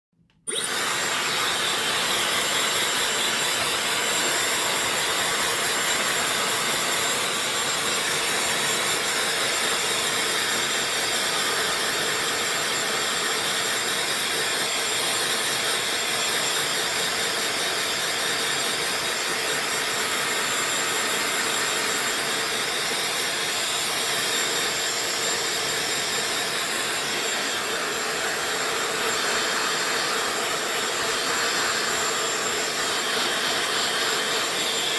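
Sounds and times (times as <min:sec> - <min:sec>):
hair dryer blowing air: 0:00.3 - 0:34.9.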